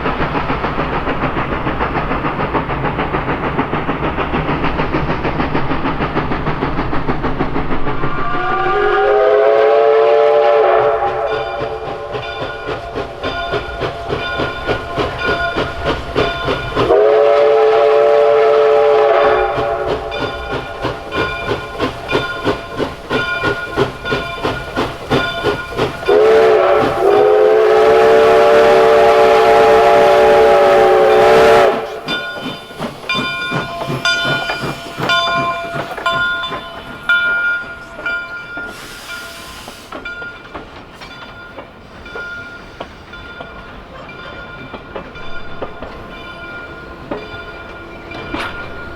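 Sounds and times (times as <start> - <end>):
train clattering: 0.0 - 48.9
steam locomotive chime whistle: 8.0 - 48.9.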